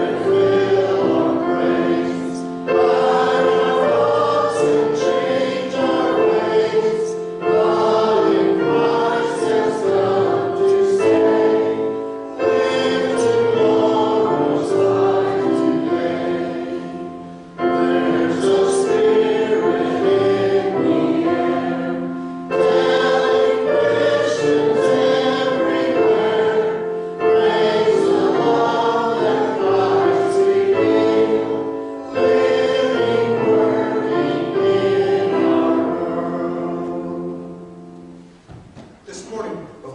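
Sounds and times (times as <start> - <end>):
choir singing a hymn: 0.0 - 39.3.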